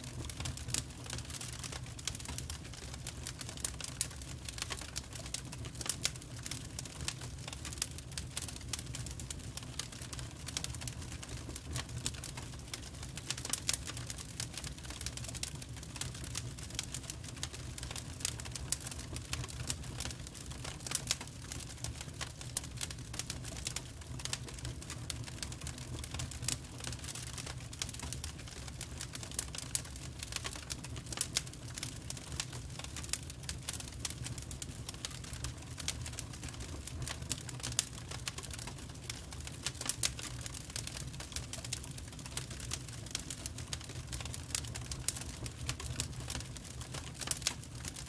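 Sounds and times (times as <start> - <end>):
wood fire crackling and popping: 0.0 - 48.0.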